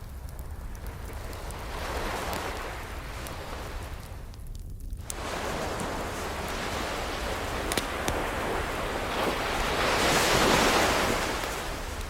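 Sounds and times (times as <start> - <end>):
wood fire crackling: 0.0 - 12.0
ocean surf waves: 1.4 - 4.2, 5.2 - 12.0.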